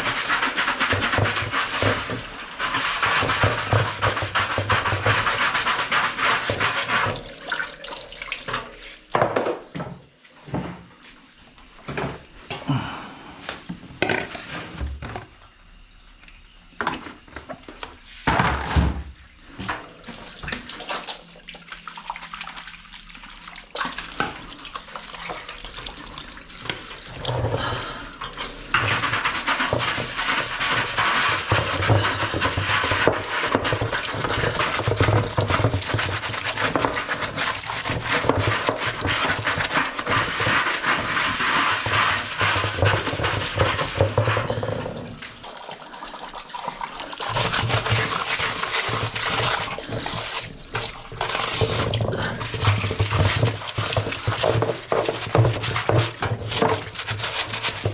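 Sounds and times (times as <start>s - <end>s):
running water rinsing: 0.0s - 9.4s, 10.6s - 57.9s.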